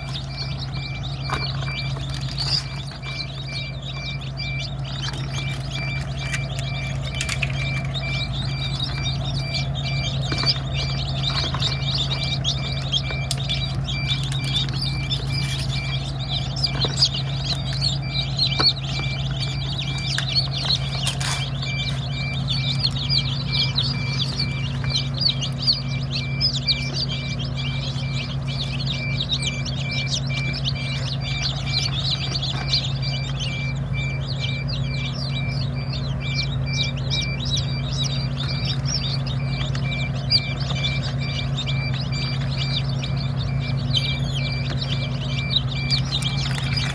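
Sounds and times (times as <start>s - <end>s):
small birds chirping: 0.0s - 46.9s
steady low hum: 0.0s - 46.9s.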